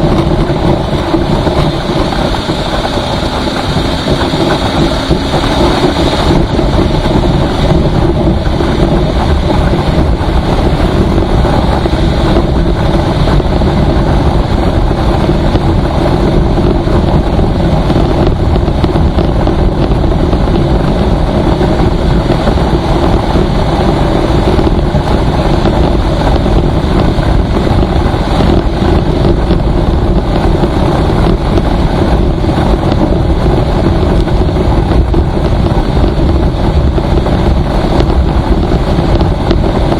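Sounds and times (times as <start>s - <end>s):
vehicle driving at highway speed: 0.0s - 39.9s
wind buffeting microphone: 0.0s - 39.9s.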